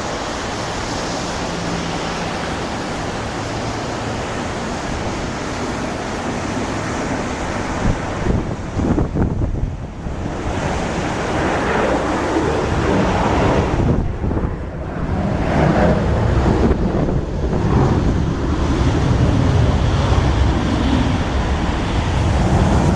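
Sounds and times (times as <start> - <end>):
jet engines roaring: 0.0 - 22.9
wind buffeting microphone: 0.0 - 22.9.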